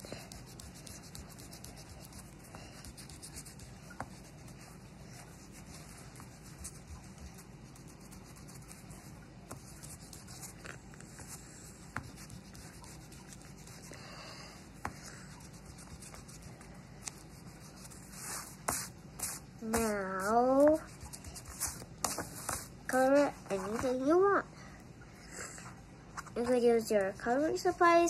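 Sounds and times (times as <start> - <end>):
eraser rubbing on paper: 0.0 - 14.0, 14.8 - 24.0, 26.4 - 28.0.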